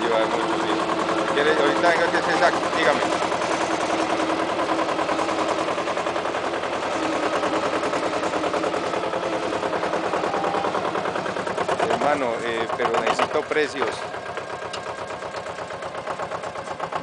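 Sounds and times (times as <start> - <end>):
minidumper engine chugging: 0.0 - 17.0.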